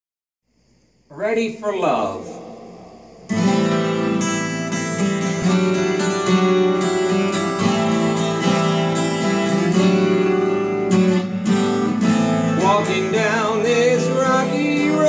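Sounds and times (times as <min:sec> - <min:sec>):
strummed twelve-string guitar: 0:02.4 - 0:15.0.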